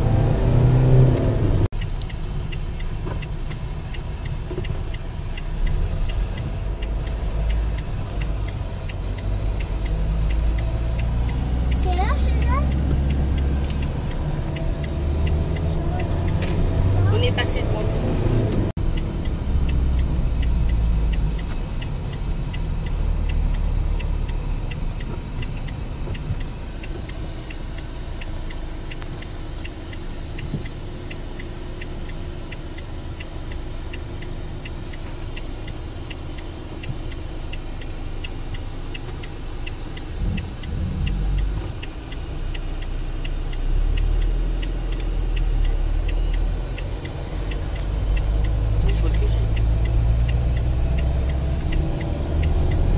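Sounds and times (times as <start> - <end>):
car engine and road rumble: 0.0 - 52.9
turn signal ticking: 0.0 - 52.9.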